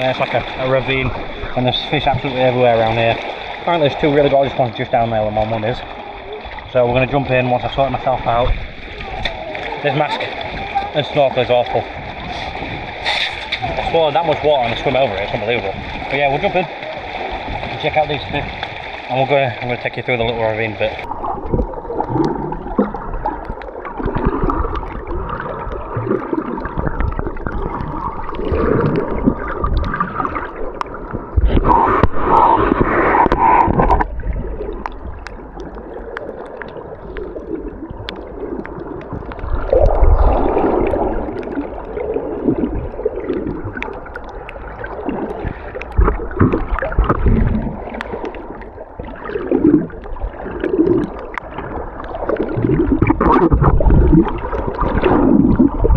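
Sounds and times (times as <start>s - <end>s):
water gurgling and sloshing: 0.0s - 55.9s.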